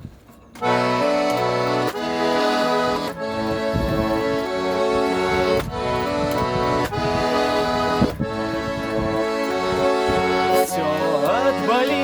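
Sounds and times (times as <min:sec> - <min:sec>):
button accordion playing chords: 0:00.6 - 0:12.0.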